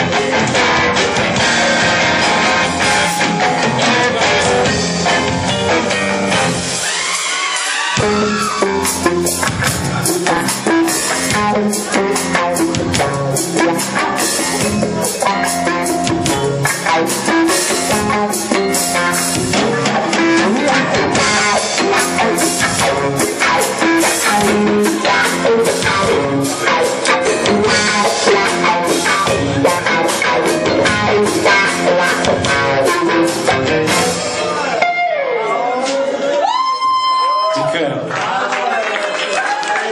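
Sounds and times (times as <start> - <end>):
drum kit beat: 0.0 - 35.1
electric guitar: 0.0 - 37.3.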